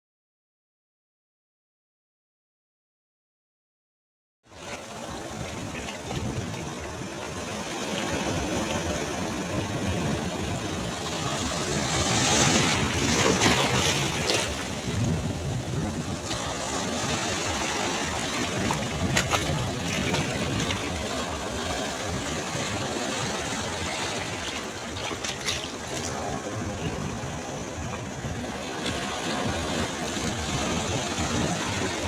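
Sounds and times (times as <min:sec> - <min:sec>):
ocean waves breaking on shore: 0:04.5 - 0:32.0.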